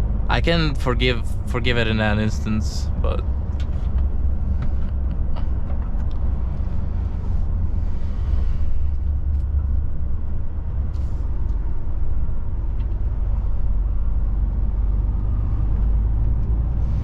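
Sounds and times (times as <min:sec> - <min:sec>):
road noise: 0:00.0 - 0:17.0
truck diesel engine rumble: 0:00.0 - 0:17.0.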